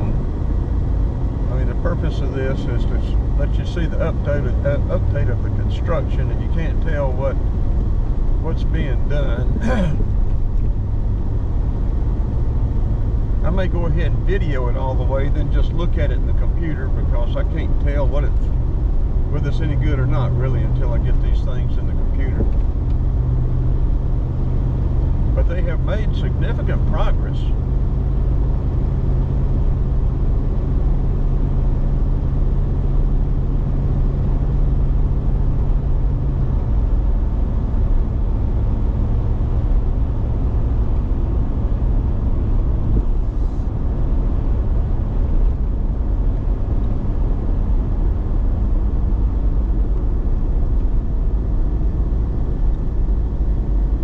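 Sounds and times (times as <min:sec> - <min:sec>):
car engine rumble: 0:00.0 - 0:54.0
tyre road noise: 0:00.0 - 0:54.0.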